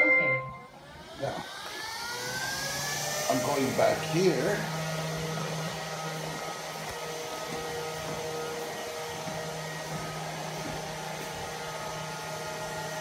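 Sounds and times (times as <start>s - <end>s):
robot vacuum humming: 0.0s - 13.0s.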